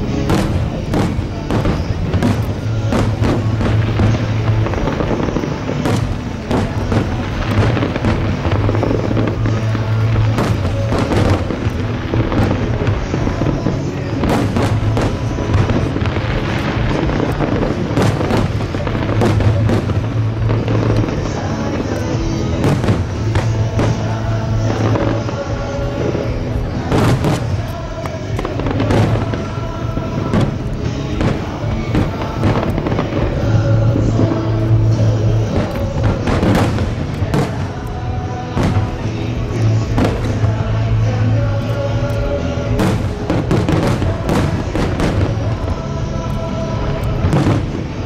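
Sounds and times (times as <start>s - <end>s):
fireworks bursting with sharp bangs: 0.0s - 48.0s
music with steady bass: 0.0s - 48.0s.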